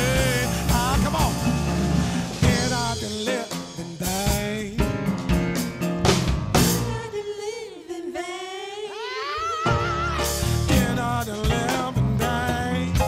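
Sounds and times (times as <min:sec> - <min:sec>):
gospel band playing: 0:00.0 - 0:07.3, 0:09.6 - 0:13.0.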